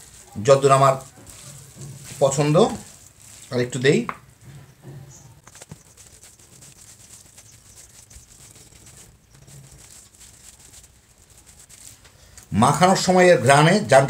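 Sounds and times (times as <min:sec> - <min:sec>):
hand squishing food: 0:00.0 - 0:04.4, 0:05.3 - 0:13.0.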